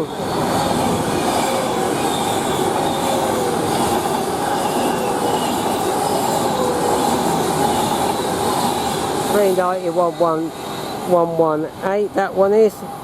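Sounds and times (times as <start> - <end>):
thin whining tones: 0.0 - 11.7
train wheels rushing on rail: 0.0 - 13.0.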